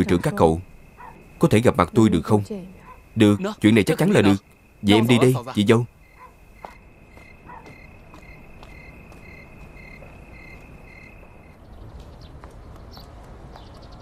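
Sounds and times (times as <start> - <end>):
crickets chirping: 0.0 - 12.2.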